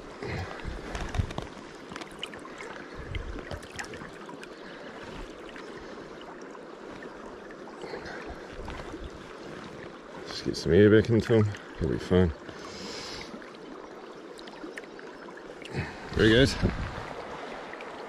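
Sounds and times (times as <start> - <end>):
river current running: 0.0 - 18.0
water splashing and sloshing: 0.0 - 18.0.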